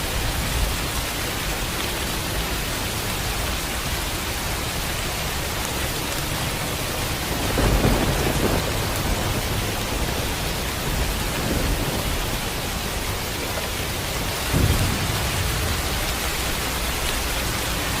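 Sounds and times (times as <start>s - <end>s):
rain falling: 0.0s - 18.0s
thunder rumble: 1.8s - 18.0s.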